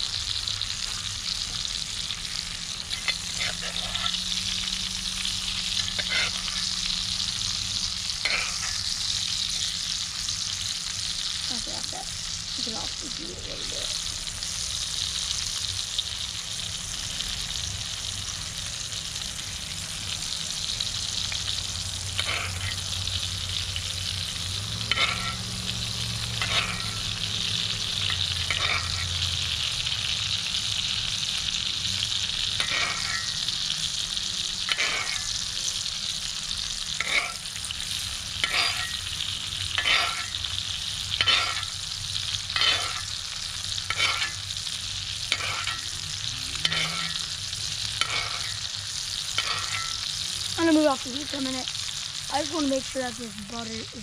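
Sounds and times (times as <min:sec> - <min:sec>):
steak sizzling in a skillet: 0:00.0 - 0:54.0.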